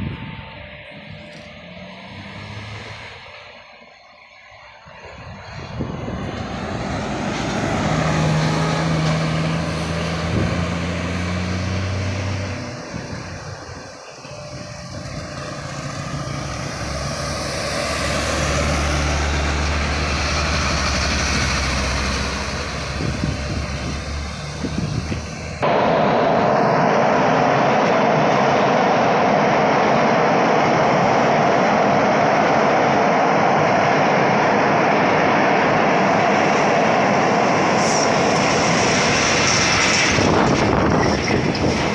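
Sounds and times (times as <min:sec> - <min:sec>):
bus diesel engine passing: 0:00.0 - 0:41.9
steady rushing noise: 0:00.0 - 0:41.9
truck diesel engine droning past: 0:00.0 - 0:41.9.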